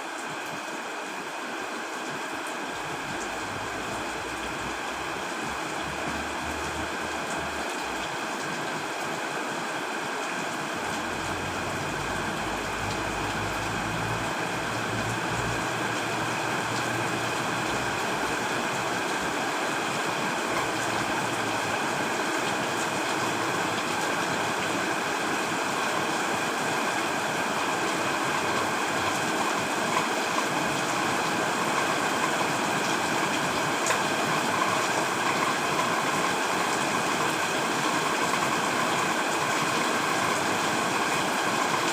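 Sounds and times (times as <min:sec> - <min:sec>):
heavy rain on a tent: 0:00.0 - 0:41.9.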